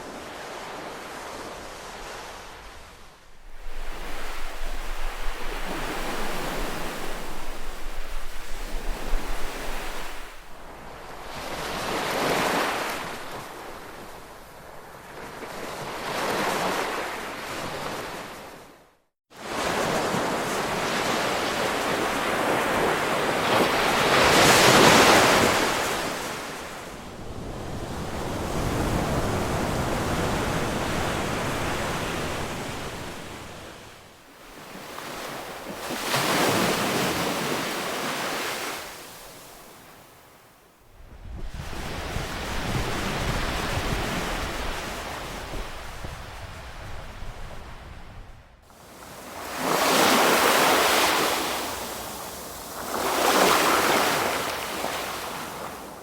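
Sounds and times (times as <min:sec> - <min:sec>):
ocean waves breaking: 0:00.0 - 0:18.6, 0:19.4 - 0:40.1, 0:48.7 - 0:56.0.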